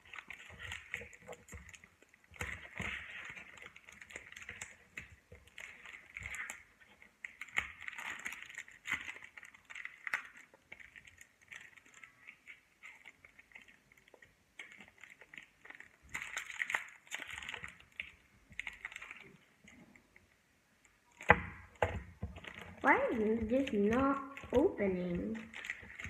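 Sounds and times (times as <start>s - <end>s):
foil wrapper crinkling: 0.0s - 20.2s, 21.1s - 26.0s.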